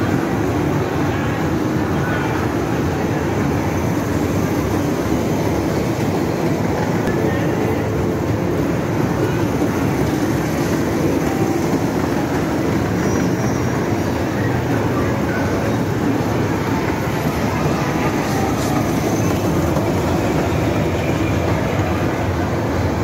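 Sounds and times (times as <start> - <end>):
kiddie ride train rumbling: 0.0 - 23.0.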